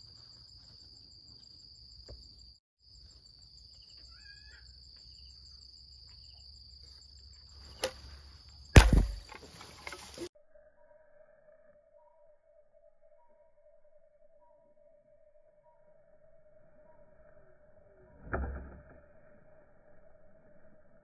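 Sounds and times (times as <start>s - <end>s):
insects trilling: 0.0s - 18.2s.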